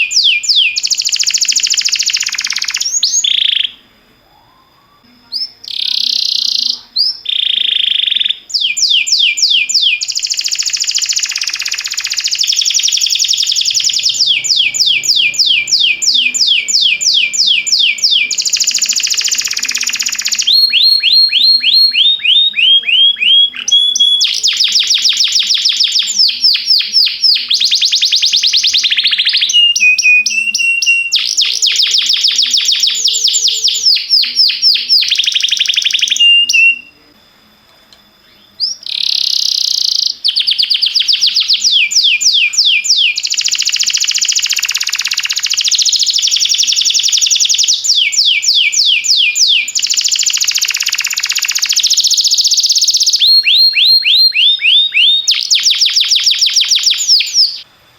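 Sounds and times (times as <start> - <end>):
canary singing trills: 0.0 - 37.1, 38.2 - 57.7.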